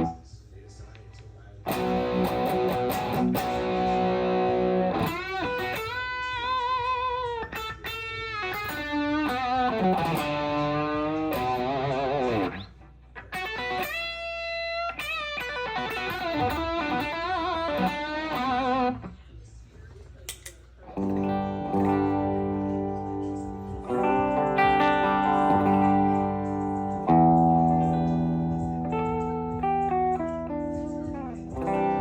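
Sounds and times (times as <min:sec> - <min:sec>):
electric guitar with vibrato: 0:00.0 - 0:00.2, 0:01.7 - 0:19.2, 0:20.9 - 0:32.0.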